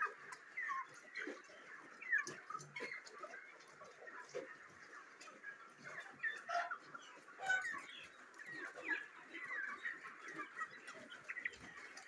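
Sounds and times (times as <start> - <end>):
chickens chirping and clucking: 0.0 - 12.0.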